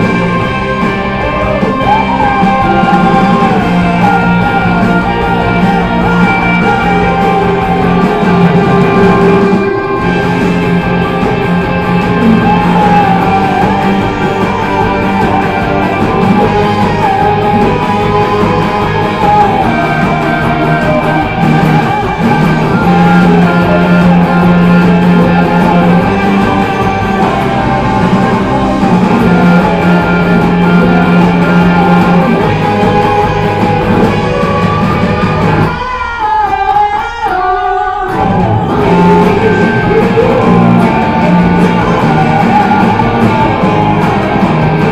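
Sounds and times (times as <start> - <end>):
guitar-led rock music: 0.0 - 44.9.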